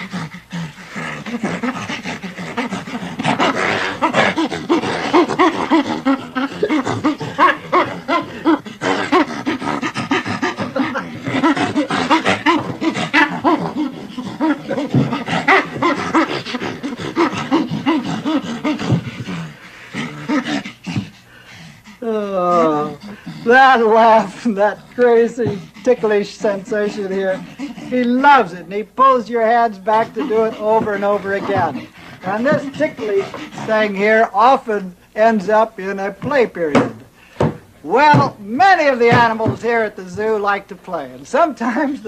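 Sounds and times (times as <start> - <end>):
chimpanzee panting laughs: 0.0 - 35.2.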